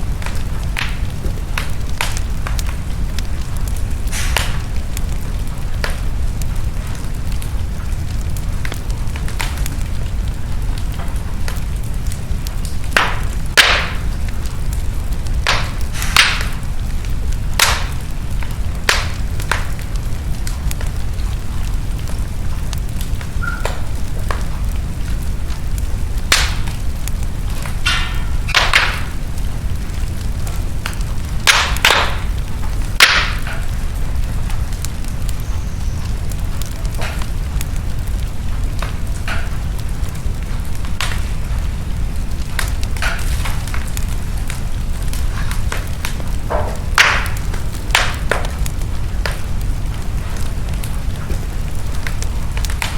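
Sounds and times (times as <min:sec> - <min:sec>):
fire flames rumbling: 0:00.0 - 0:52.9
logs crackling and popping: 0:00.0 - 0:52.9.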